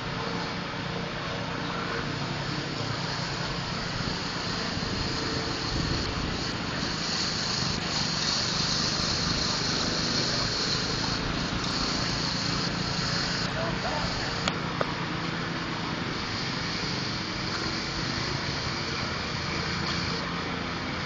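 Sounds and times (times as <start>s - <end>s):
hiss: 0.0s - 21.0s
small petrol engine running: 0.0s - 21.0s.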